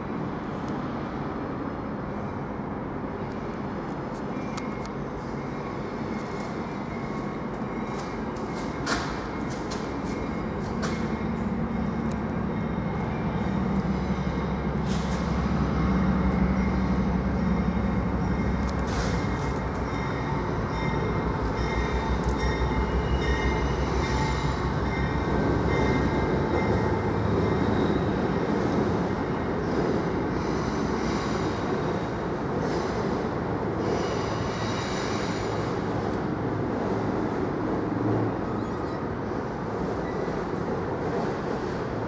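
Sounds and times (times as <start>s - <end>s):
train rumbling on rails: 0.0s - 42.0s.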